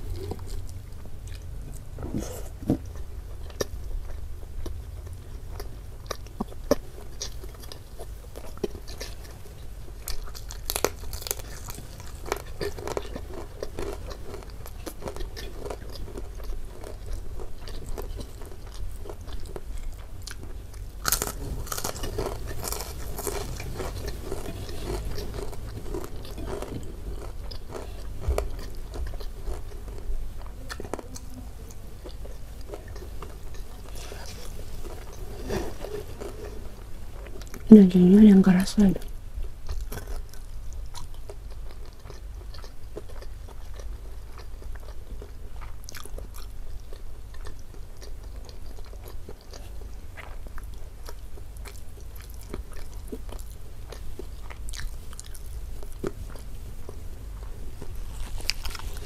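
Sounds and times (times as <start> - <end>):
close chewing with mouth smacking: 0.0 - 37.7, 38.9 - 59.0.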